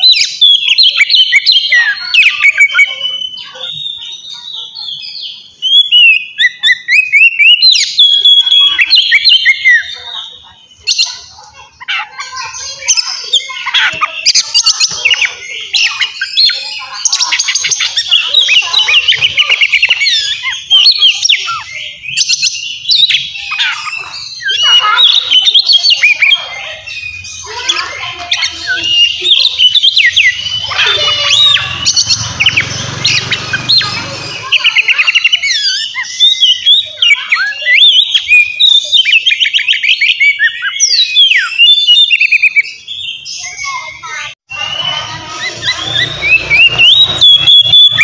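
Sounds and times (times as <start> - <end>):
bird singing loudly: 0.0 - 48.0.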